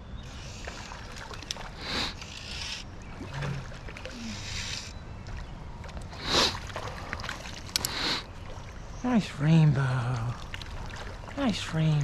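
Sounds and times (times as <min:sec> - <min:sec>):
flowing stream water: 0:00.0 - 0:12.0
water splashing: 0:00.2 - 0:12.0.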